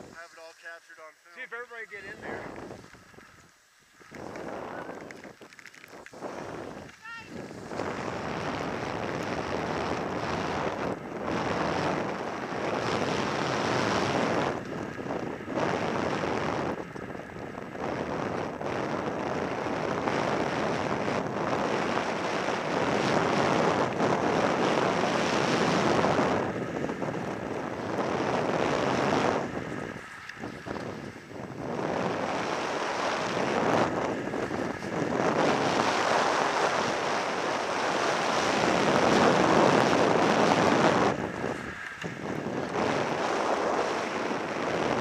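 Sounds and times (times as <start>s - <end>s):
skis scraping on packed snow: 0.0s - 16.8s, 17.8s - 45.0s
wind rushing over microphone: 0.0s - 45.0s.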